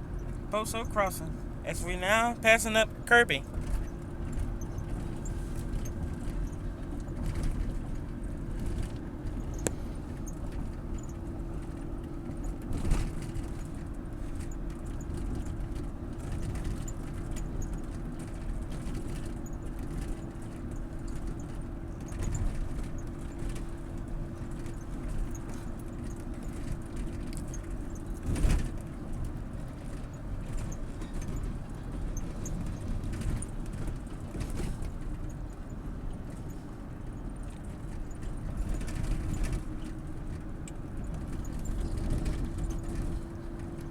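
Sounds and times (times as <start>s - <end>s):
car road noise rumble: 0.0s - 43.9s.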